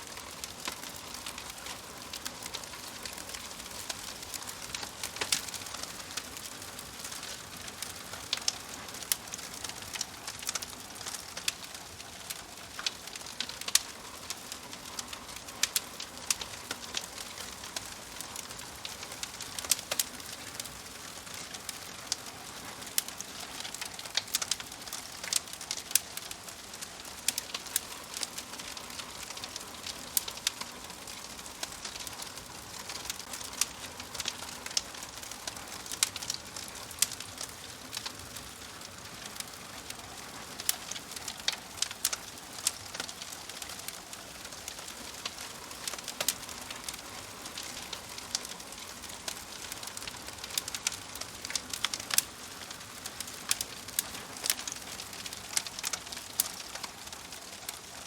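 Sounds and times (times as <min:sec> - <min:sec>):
fire hissing: 0:00.0 - 0:58.0
wood fire crackling: 0:00.0 - 0:58.0.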